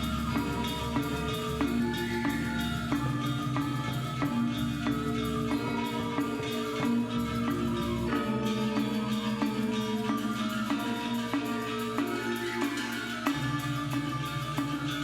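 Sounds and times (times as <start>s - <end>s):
metallophones ringing notes: 0.0s - 15.0s.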